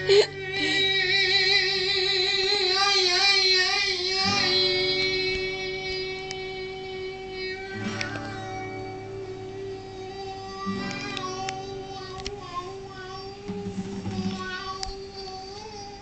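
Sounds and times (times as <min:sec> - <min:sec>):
high voice singing with vibrato: 0:00.0 - 0:16.0
steady held notes: 0:00.0 - 0:16.0.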